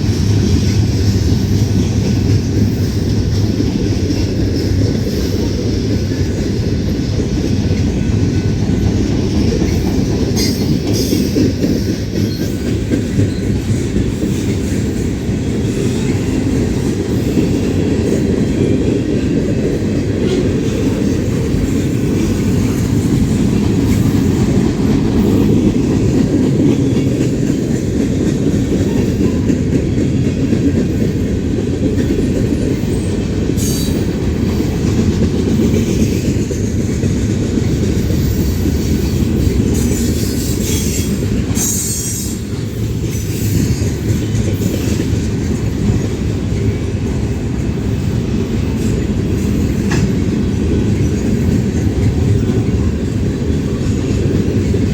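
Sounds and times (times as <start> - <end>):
railroad cars rumbling past: 0.0 - 54.9.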